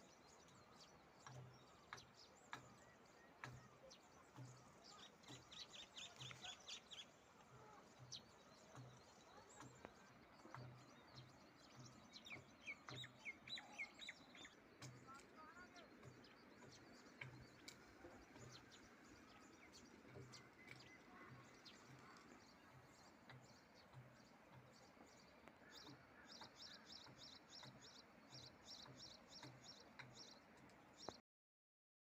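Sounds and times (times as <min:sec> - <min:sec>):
small birds chirping: 0:00.0 - 0:31.2.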